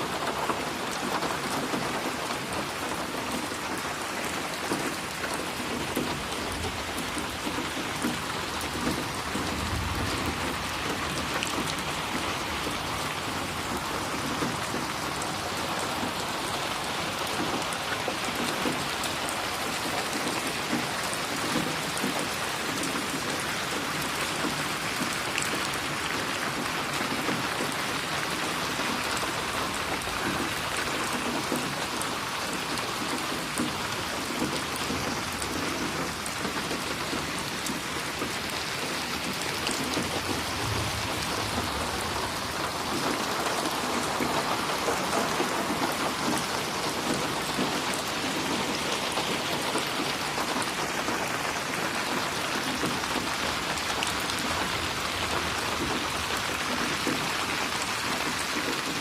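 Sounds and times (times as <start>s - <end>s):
rain splashing on a surface: 0.0s - 59.0s.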